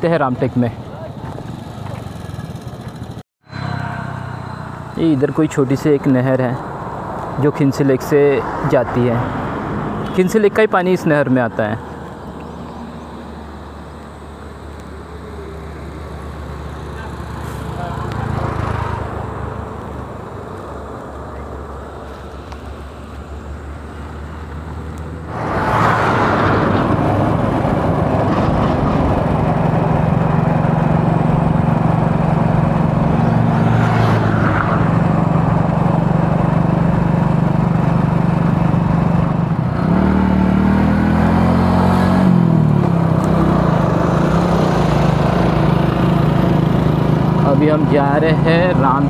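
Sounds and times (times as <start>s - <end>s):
wind and road noise: 0.0s - 49.0s.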